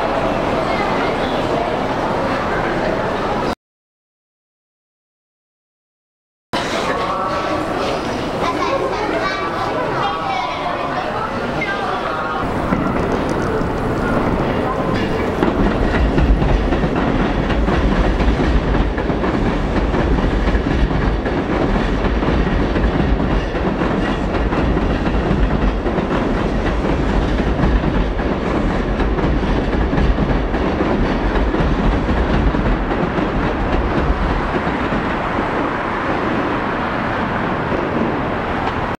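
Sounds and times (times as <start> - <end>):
train rumbling past slowly: 6.6 - 39.0.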